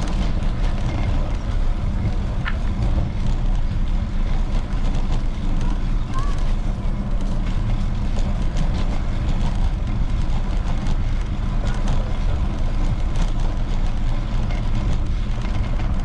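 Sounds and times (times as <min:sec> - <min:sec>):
passing traffic: 0:00.0 - 0:16.0
wind and road noise rumble: 0:00.0 - 0:16.0.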